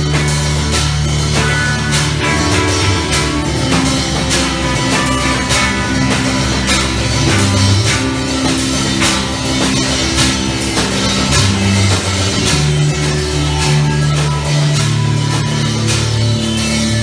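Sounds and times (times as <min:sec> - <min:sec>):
cymbal hits: 0:00.0 - 0:17.0
drum kit: 0:00.0 - 0:17.0
guitar: 0:00.0 - 0:17.0
sustained bass notes: 0:00.0 - 0:17.0.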